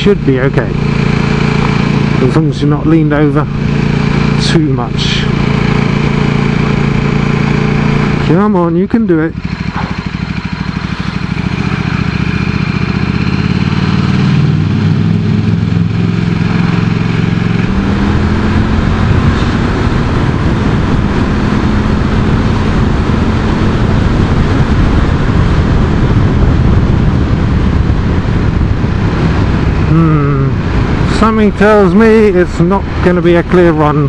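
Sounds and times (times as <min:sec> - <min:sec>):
heavy wind rush: 0:00.0 - 0:34.0
motorcycle engine pulling hard: 0:00.0 - 0:34.0.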